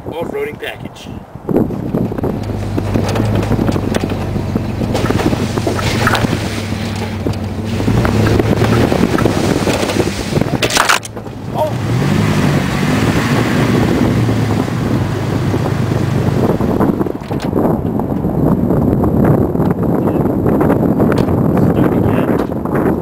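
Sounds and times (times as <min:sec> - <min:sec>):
wind and trail noise: 0:00.0 - 0:23.0
truck engine revving: 0:01.6 - 0:21.5
vehicle engine running: 0:01.7 - 0:21.0.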